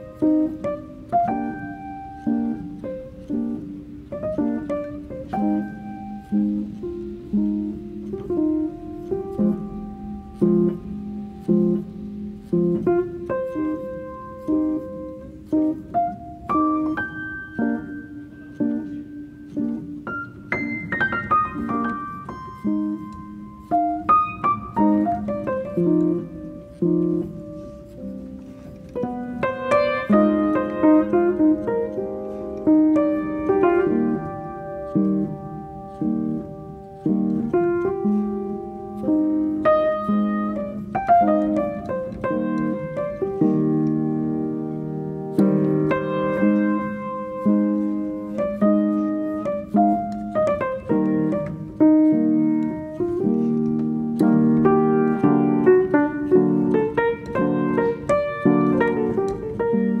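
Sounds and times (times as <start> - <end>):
piano music: 0.0 - 60.0.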